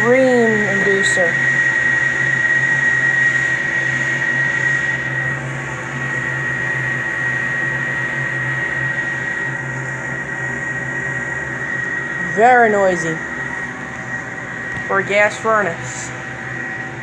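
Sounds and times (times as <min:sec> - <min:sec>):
furnace blower motor whine: 0:00.0 - 0:17.0.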